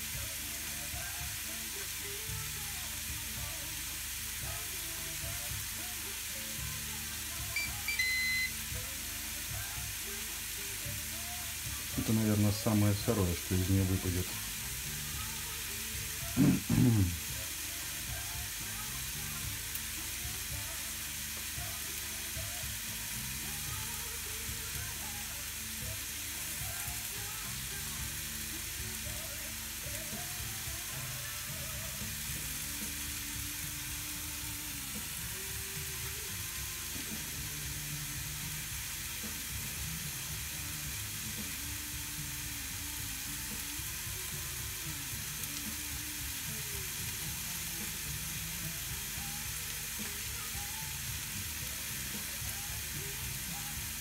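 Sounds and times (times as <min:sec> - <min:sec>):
steak sizzling on contact grill: 0:00.0 - 0:54.0.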